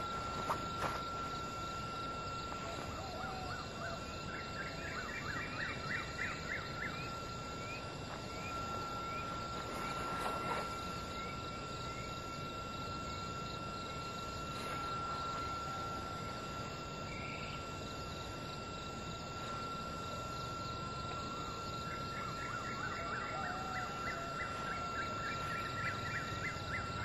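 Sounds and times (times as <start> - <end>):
steady high-pitched tone: 0.0 - 27.0.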